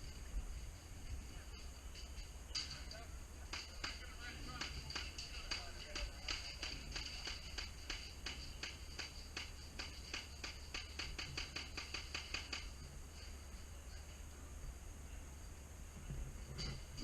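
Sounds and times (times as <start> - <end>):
armour clinking with steps: 0.0 - 14.2, 16.4 - 17.0.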